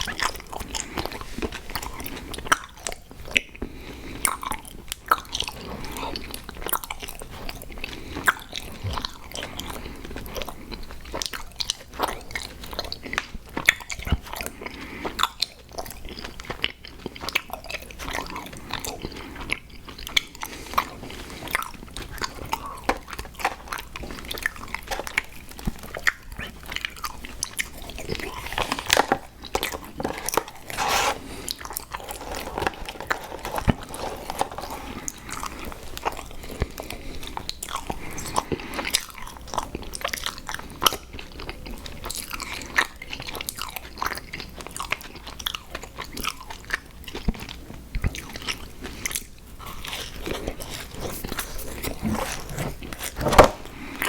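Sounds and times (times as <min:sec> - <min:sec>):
chewing crunchy cereal: 0:00.0 - 0:54.0.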